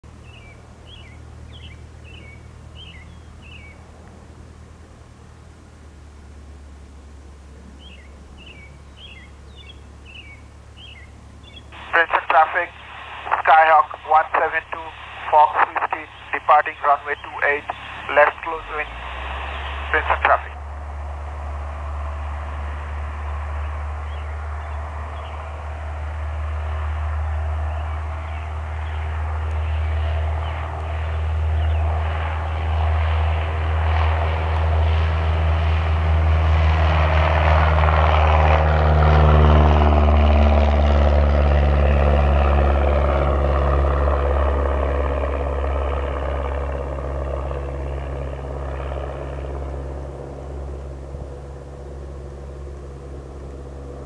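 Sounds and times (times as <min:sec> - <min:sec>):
propeller plane engine: 0:00.0 - 0:54.0.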